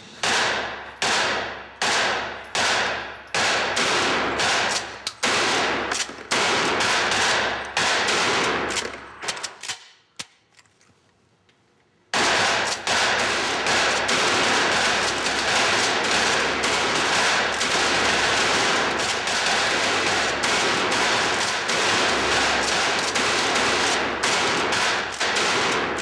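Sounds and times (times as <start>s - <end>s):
echoing handgun shots: 0.2s - 9.8s, 12.1s - 26.0s.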